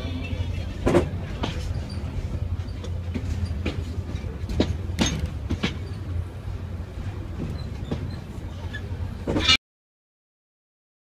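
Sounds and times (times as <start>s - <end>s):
train wheels rumbling on rails: 0.0s - 9.5s
wheels clacking over rail joints: 0.0s - 9.6s.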